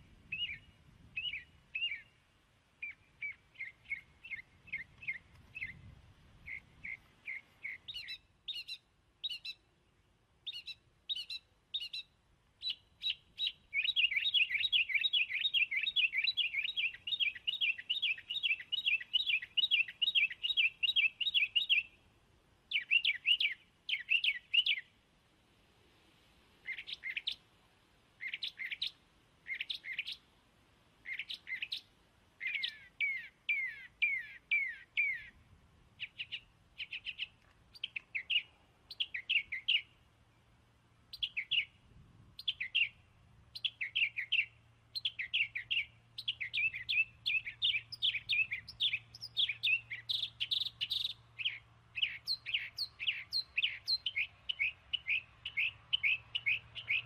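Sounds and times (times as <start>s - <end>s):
bird chirping: 0.0s - 9.7s, 10.4s - 22.1s, 22.7s - 25.0s, 26.6s - 27.4s, 28.2s - 30.3s, 31.0s - 35.4s, 36.0s - 41.8s, 42.4s - 57.0s.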